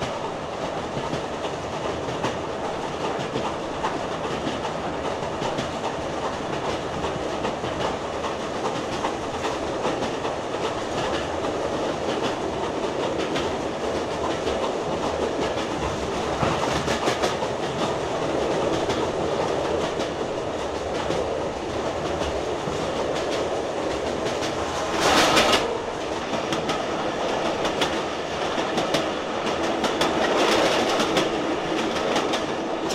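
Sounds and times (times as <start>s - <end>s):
model train rumbling: 0.0s - 32.9s
wheels clicking over rail joints: 0.0s - 32.9s.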